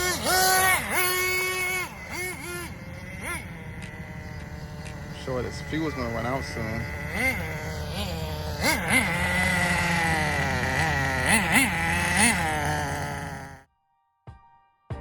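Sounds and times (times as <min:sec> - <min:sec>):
small two-stroke engine revving: 0:00.0 - 0:13.7.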